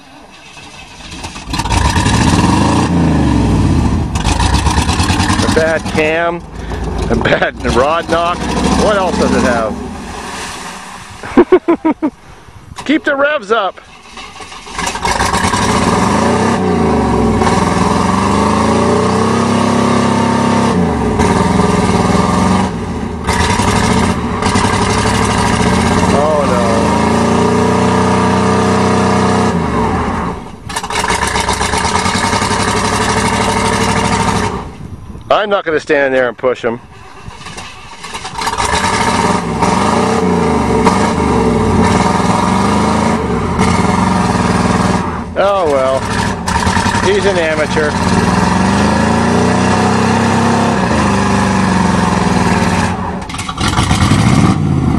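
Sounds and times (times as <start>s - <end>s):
truck engine revving hard: 0.6s - 11.6s, 13.9s - 34.8s, 37.2s - 54.9s.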